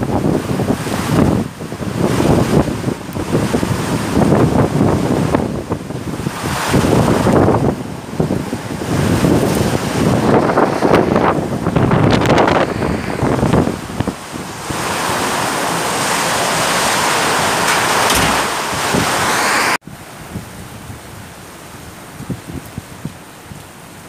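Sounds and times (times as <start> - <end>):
wind gusting against microphone: 0.0 - 24.0.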